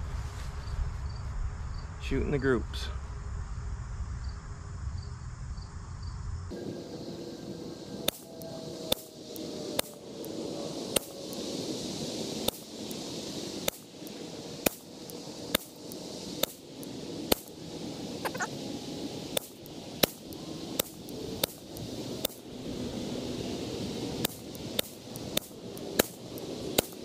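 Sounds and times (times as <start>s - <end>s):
insect buzz: 0.0s - 27.0s.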